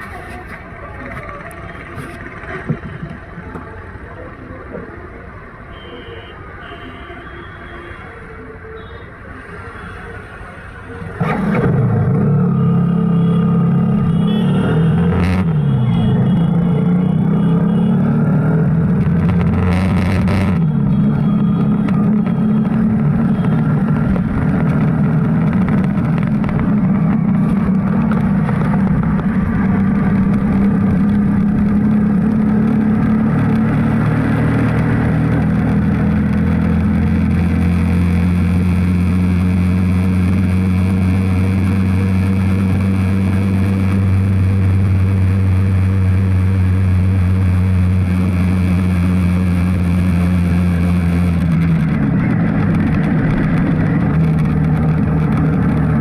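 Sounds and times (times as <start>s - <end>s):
road noise: 0.0s - 56.0s
vehicle engine hum: 0.0s - 56.0s.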